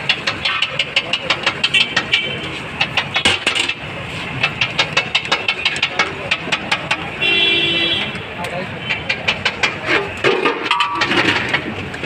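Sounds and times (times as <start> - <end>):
street hum: 0.0 - 12.0.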